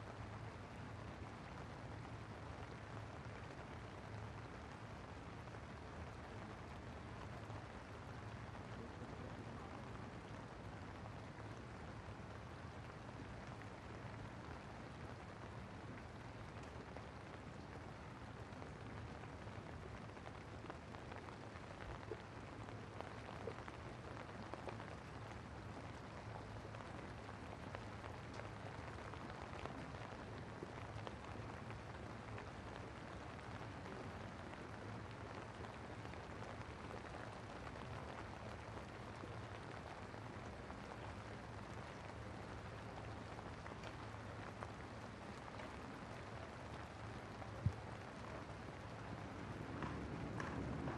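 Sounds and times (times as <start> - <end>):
rain falling and pattering: 0.0 - 50.9
loud raindrop ticks: 0.1 - 50.9.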